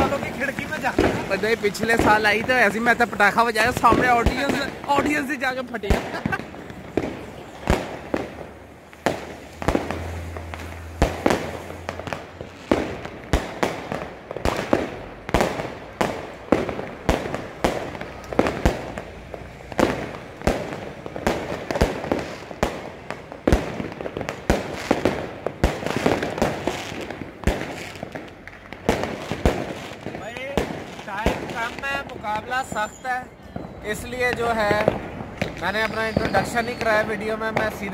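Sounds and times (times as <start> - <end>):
firecrackers banging: 0.0 - 37.9.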